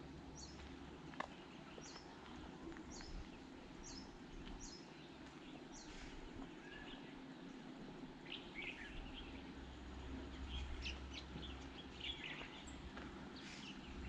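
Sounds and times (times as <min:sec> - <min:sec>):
faint low rumble: 0:00.0 - 0:14.0
small birds chirping: 0:00.0 - 0:14.0.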